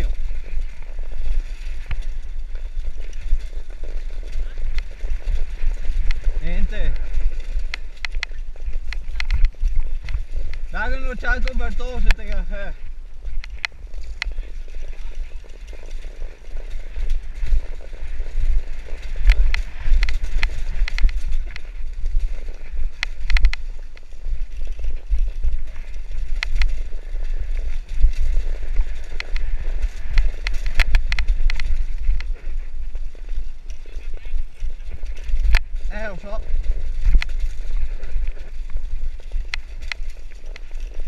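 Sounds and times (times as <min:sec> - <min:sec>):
bike knocking and rattling on rocks: 0:00.0 - 0:41.0
steady low rumble: 0:00.0 - 0:41.0.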